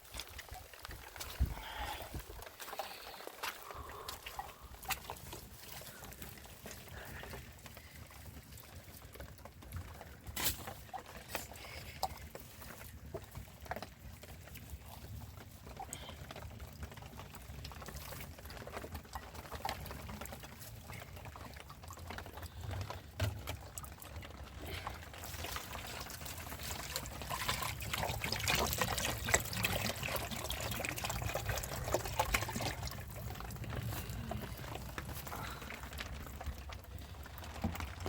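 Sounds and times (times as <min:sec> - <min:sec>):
water pouring and trickling: 0:00.0 - 0:38.0.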